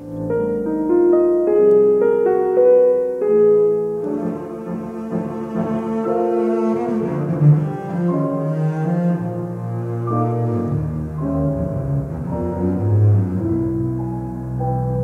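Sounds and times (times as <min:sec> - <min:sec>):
double bass: 0:00.0 - 0:15.0
piano notes: 0:00.0 - 0:15.0.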